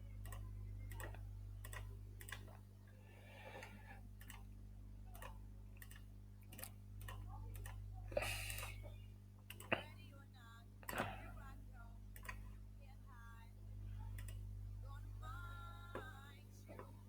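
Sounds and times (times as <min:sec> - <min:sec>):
faint ticking clicks: 0:00.0 - 0:10.1, 0:10.8 - 0:12.7, 0:13.9 - 0:17.0
steady low hum: 0:00.0 - 0:17.0.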